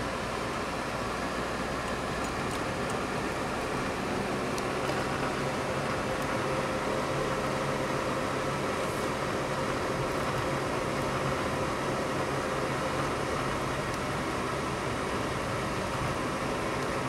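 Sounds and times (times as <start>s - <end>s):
car interior engine and tyre rumble: 0.0s - 17.0s.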